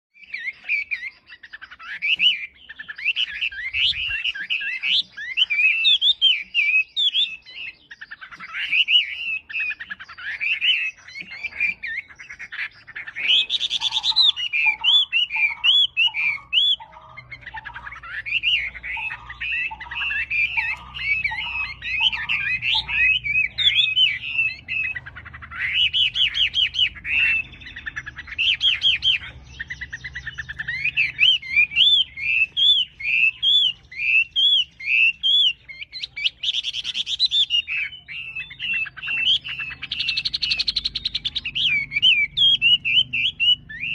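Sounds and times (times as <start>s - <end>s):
songbird chirping and trilling: 0.1s - 43.9s.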